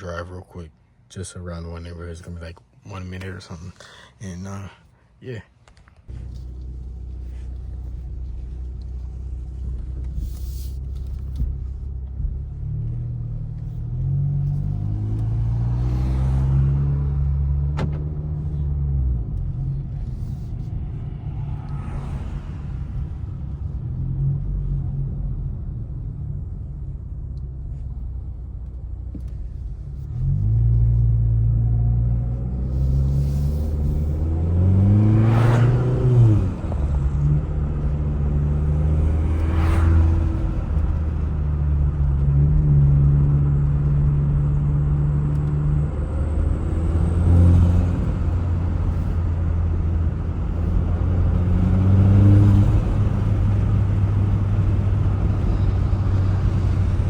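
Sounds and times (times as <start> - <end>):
car engine accelerating: 6.0 - 57.0.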